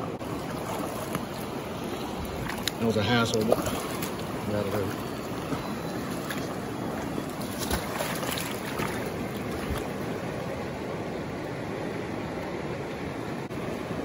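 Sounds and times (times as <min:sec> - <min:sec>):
river water running: 0:00.0 - 0:14.0.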